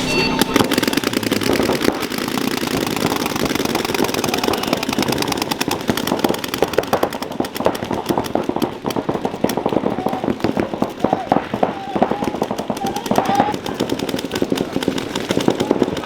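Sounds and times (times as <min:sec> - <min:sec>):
paintball markers firing: 0:00.4 - 0:16.0.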